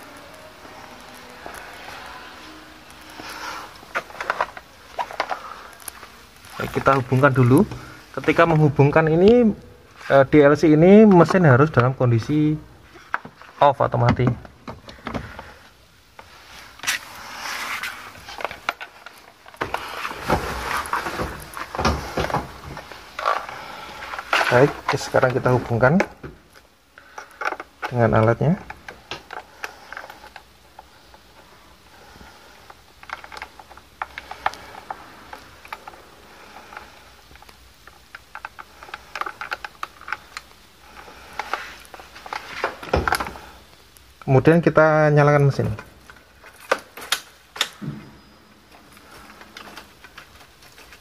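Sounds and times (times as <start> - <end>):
cable handling rustling and clicks: 0.0 - 47.9, 48.6 - 51.0.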